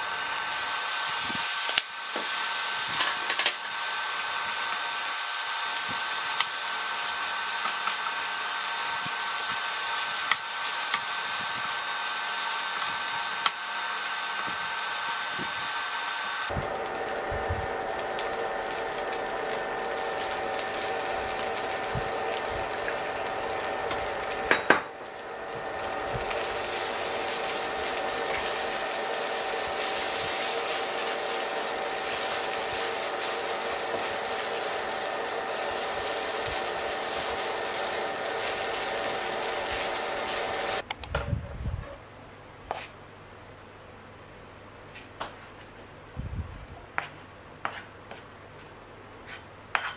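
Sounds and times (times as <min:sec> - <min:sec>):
rice sizzling in frying pan: 0:00.0 - 0:40.8
cooktop whir: 0:00.0 - 0:49.9.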